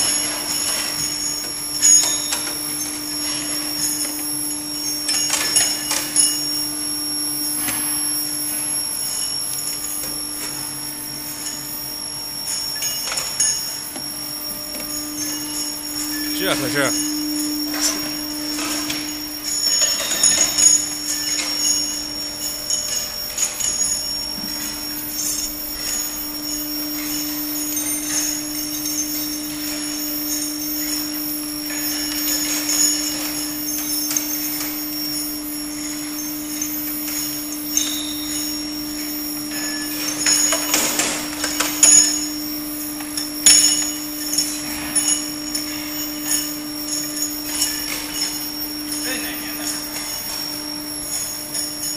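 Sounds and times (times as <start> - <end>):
chain conveyor running: 0.0 - 51.9
high-pitched whine: 0.0 - 51.9
metal workpieces clinking: 0.0 - 51.9
steady machine hum: 0.0 - 51.9.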